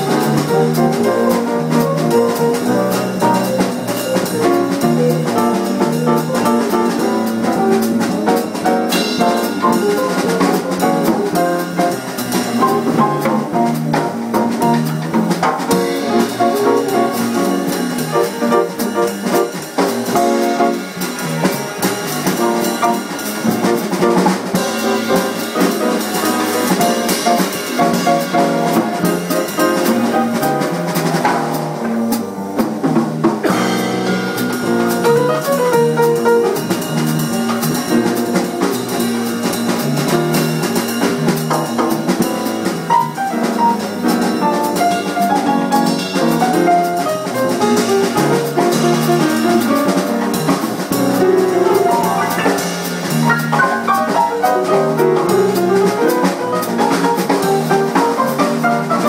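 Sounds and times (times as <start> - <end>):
drum kit keeping time: 0.0 - 59.0
upright piano playing jazz: 0.0 - 59.0.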